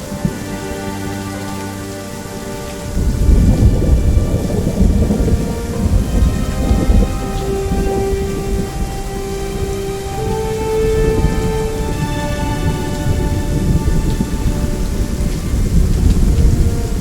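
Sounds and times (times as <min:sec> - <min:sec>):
rolling thunder rumble: 0:00.0 - 0:17.0
steady rain: 0:00.0 - 0:17.0.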